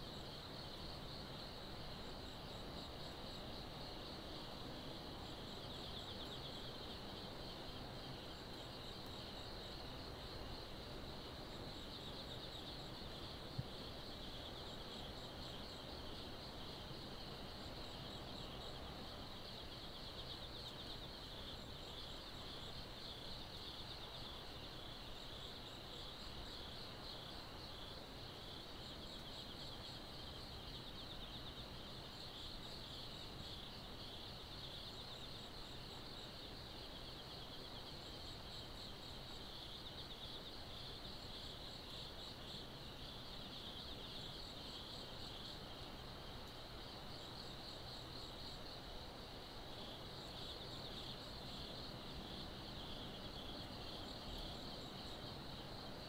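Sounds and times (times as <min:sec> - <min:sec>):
higher insect chirps: 0:00.0 - 0:56.0
night insects trilling: 0:00.0 - 0:56.0.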